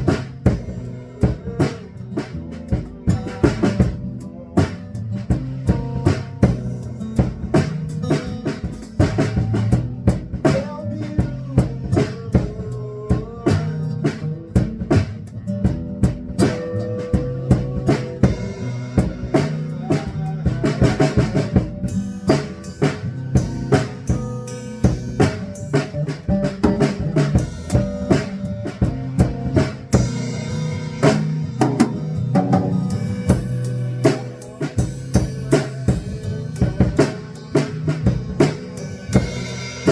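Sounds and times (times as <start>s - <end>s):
drum kit beat: 0.0s - 39.9s
electric guitar: 0.0s - 39.9s
live band playing: 0.0s - 39.9s.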